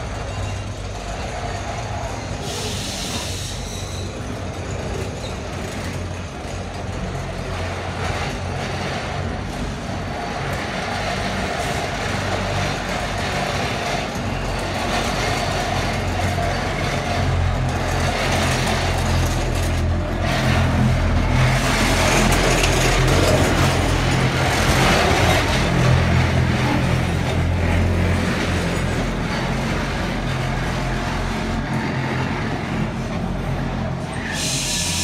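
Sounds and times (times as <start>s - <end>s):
funicular car running on rails: 0.0s - 35.0s.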